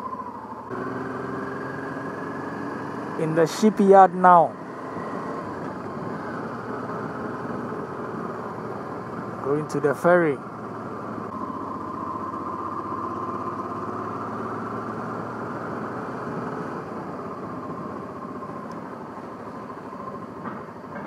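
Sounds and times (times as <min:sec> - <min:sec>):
motorcycle engine hum: 0:00.0 - 0:21.0.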